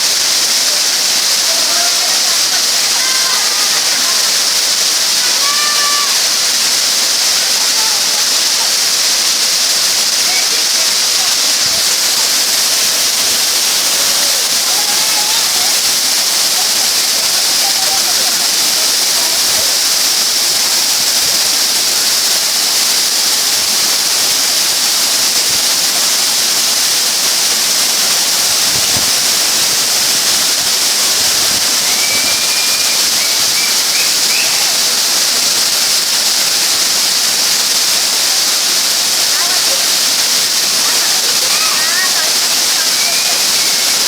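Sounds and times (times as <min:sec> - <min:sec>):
waterfall pouring: 0:00.0 - 0:44.0.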